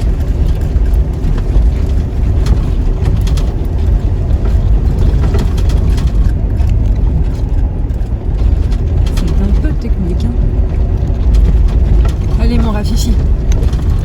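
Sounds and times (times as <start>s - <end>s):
knocks and rattles from bumps: 0.0s - 14.0s
low engine and road rumble: 0.0s - 14.0s.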